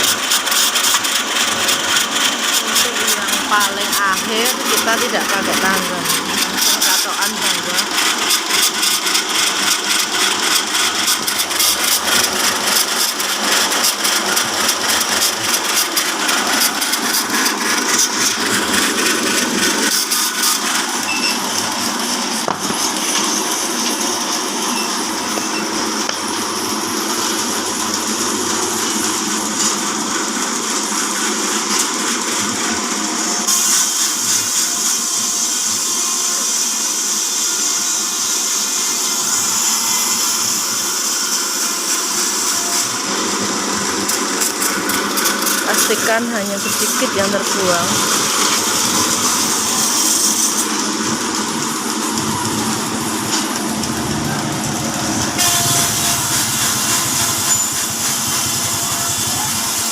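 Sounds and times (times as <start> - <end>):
fast mechanical rattle: 0.0 - 36.0, 37.4 - 59.9
band saw cutting log: 0.0 - 59.9.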